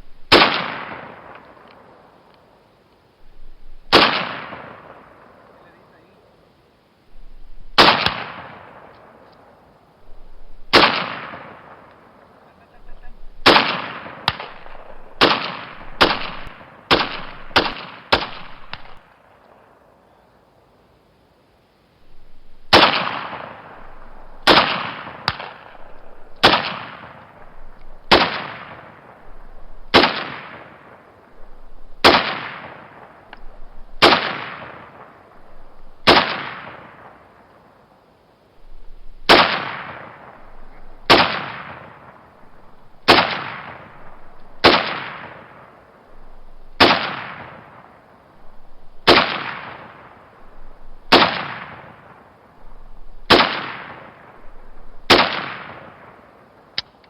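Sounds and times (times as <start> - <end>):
echoing gunshots: 0.2 - 2.1, 3.3 - 5.6, 7.4 - 19.4, 22.1 - 37.5, 38.6 - 56.5.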